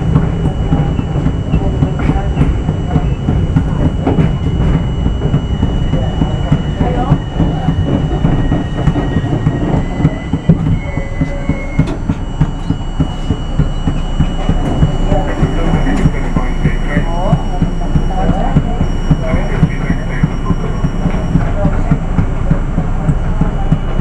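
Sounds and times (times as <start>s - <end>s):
train rumble: 0.0s - 24.0s
train wheels clattering over rail joints: 0.1s - 24.0s.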